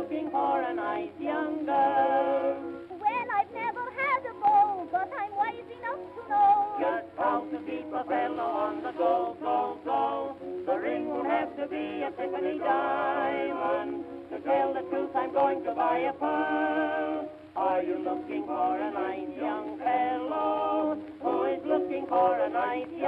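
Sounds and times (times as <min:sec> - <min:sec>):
vocal group singing on old record: 0:00.0 - 0:23.0.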